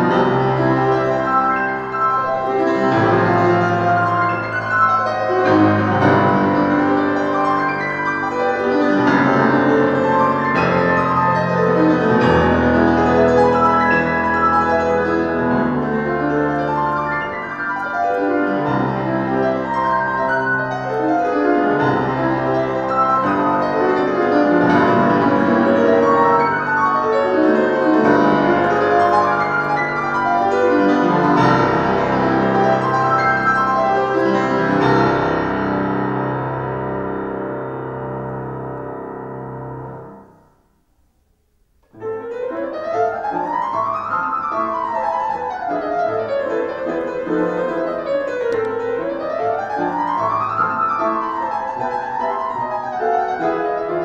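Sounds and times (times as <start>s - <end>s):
solo classical piano: 0.0s - 54.0s.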